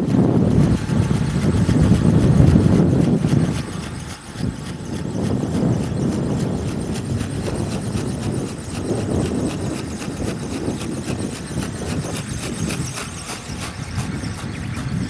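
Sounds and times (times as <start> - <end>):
rapid high ticking: 0.0 - 15.0
wind buffeting microphone: 0.0 - 15.0.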